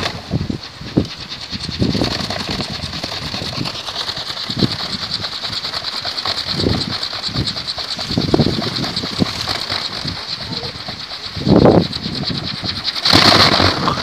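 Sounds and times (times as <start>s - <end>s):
wind propeller whirring hum: 0.0s - 14.0s
wind rumbling: 0.0s - 14.0s.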